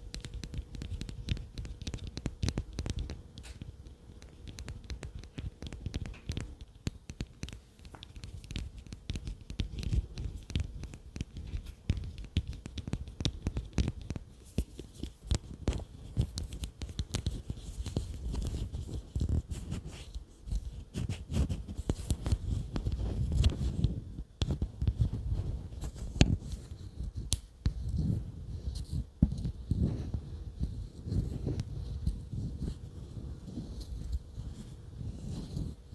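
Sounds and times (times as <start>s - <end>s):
rapid tapping on objects: 0.0s - 35.9s.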